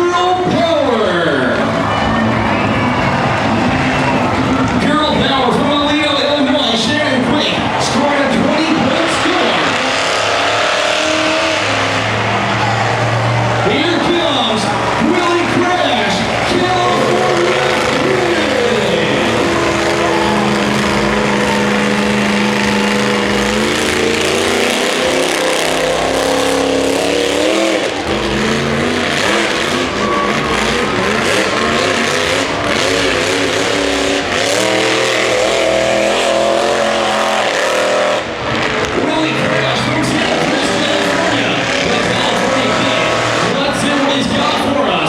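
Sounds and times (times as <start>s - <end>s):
monster truck engine revving: 0.0s - 45.0s.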